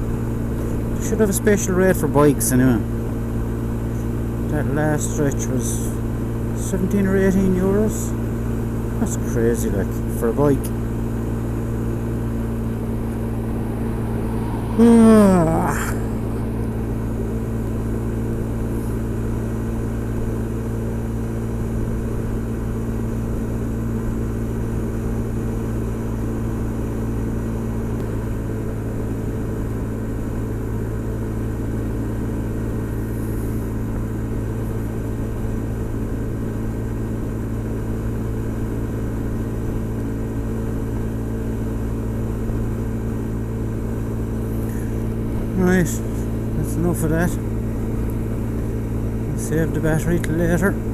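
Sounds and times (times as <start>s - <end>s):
wind and road noise: 0.0s - 50.9s
scooter engine cruising: 7.3s - 50.9s.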